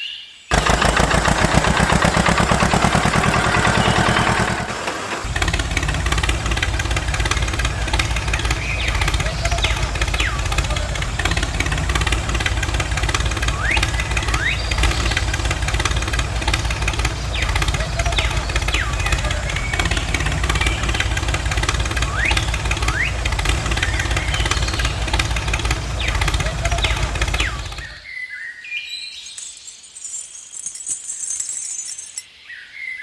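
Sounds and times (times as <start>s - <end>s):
birds chirping: 0.0s - 33.0s
small engine puttering: 0.5s - 28.0s.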